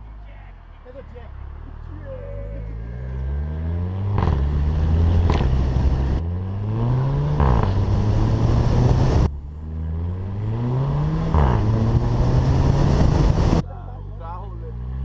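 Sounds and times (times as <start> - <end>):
car engine accelerating hard: 2.6 - 15.0.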